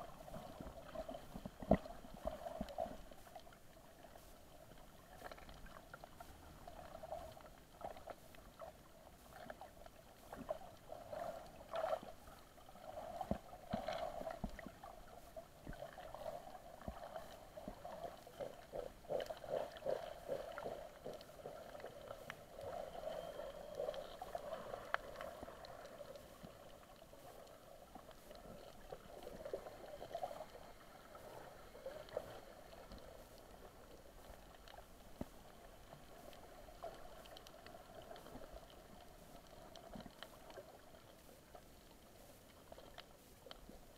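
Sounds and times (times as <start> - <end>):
underwater clicks and crackles: 0.0 - 43.9
underwater rush of water: 0.0 - 43.9.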